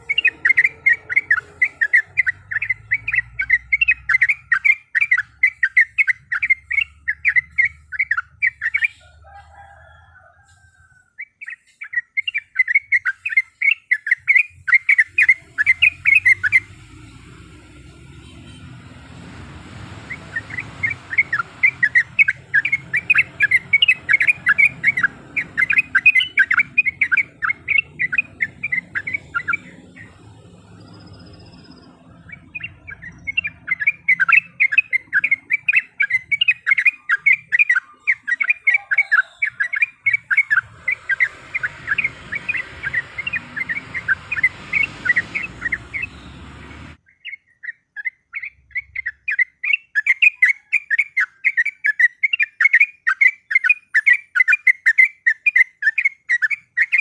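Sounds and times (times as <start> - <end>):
bird singing chattering notes: 0.0 - 9.1, 11.2 - 19.1, 19.9 - 57.0.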